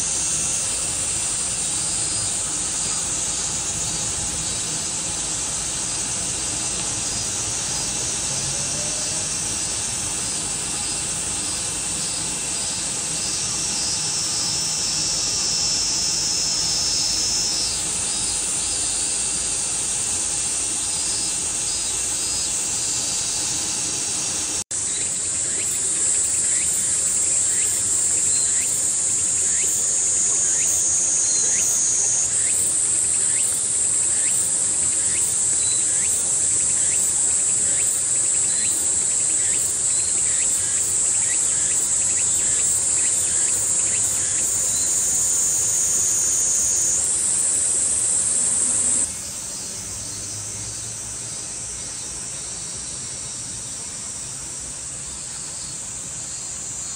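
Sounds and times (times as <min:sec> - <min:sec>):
cicadas buzzing: 0:00.0 - 0:56.9.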